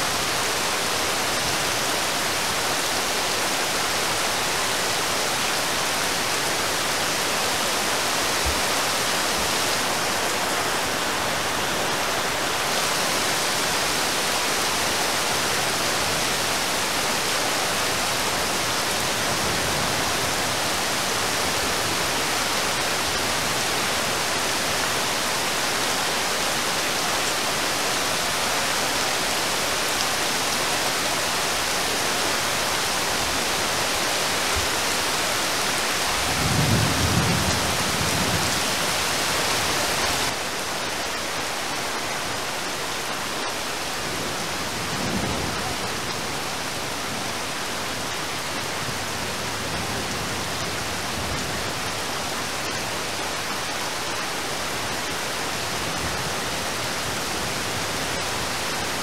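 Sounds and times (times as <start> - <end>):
heavy rain on water: 0.0 - 59.0.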